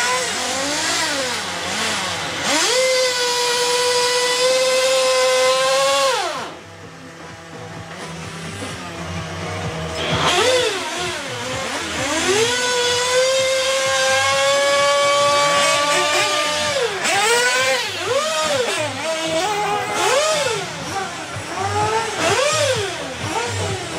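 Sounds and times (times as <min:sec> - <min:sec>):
nitro engine revving: 0:00.0 - 0:23.9.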